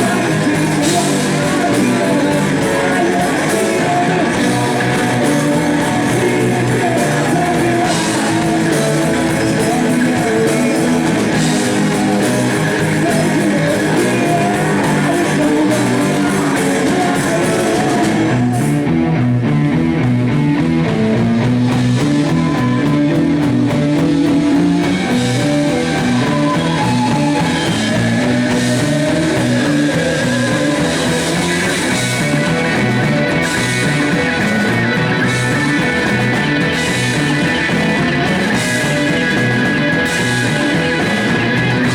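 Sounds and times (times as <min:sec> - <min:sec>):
person singing: 0:00.0 - 0:19.0, 0:21.9 - 0:41.9
blues-rock band playing: 0:00.0 - 0:41.9
drums: 0:00.0 - 0:41.9
electric guitar riffs: 0:00.0 - 0:41.9.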